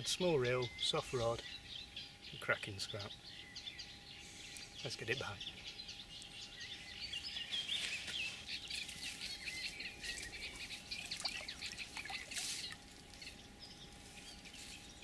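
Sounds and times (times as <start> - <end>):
songbirds chirping and singing: 0.0 - 15.0.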